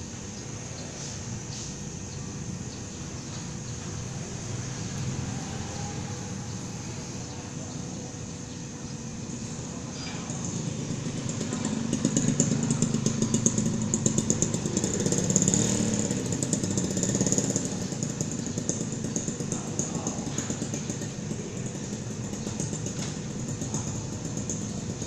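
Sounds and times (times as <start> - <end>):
motorcycle engine passing by: 2.6 - 8.4, 9.2 - 25.0.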